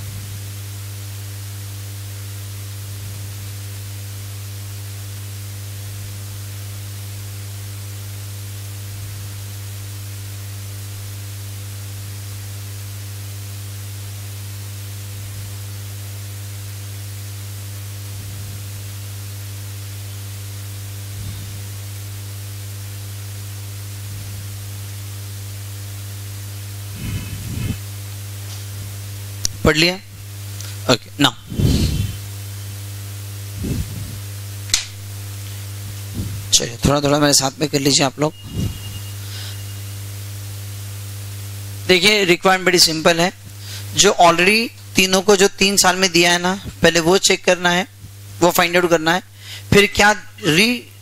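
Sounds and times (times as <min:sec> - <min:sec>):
electrical mains hum: 0:00.0 - 0:51.0
microphone hiss: 0:00.0 - 0:51.0.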